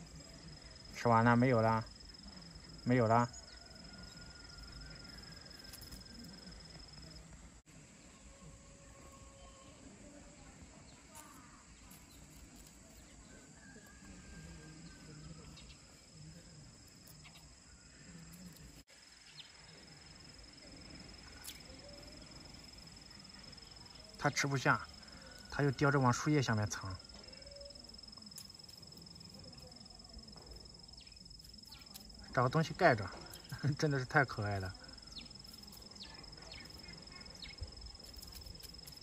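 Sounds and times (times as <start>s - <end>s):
insect trilling: 0.0s - 7.3s, 10.9s - 39.0s.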